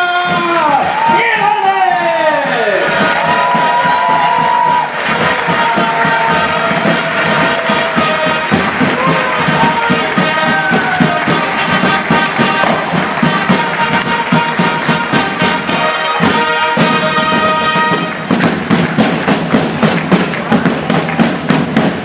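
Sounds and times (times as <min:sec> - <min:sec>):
drumbeat: 0:00.0 - 0:22.0
marching brass band: 0:00.0 - 0:22.0.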